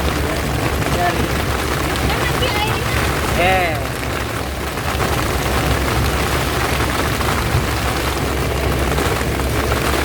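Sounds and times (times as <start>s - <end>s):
deep rumble: 0.0s - 10.0s
heavy rain pouring: 0.0s - 10.0s.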